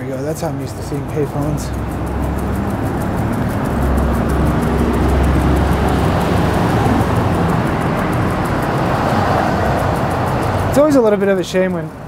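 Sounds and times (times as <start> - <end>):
cars driving past: 0.0 - 12.0
low engine rumble: 0.0 - 12.0.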